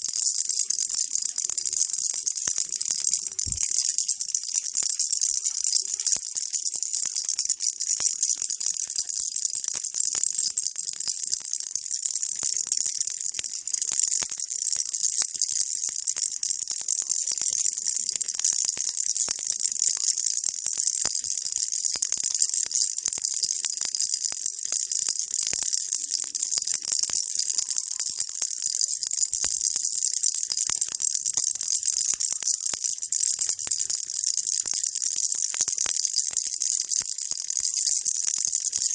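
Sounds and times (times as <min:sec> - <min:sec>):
baby rattle shaken: 0:00.0 - 0:38.9.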